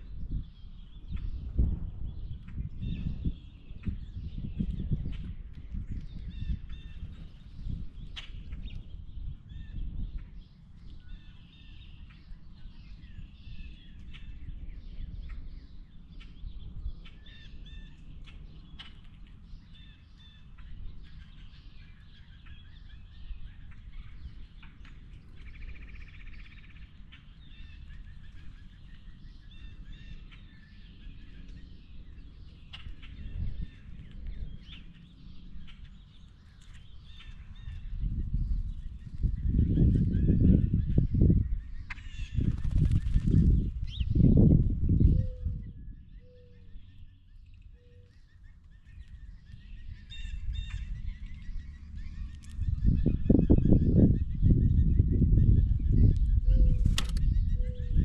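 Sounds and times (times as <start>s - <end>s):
wind rumble on microphone: 0.0s - 58.0s
birds chirping: 5.6s - 58.0s.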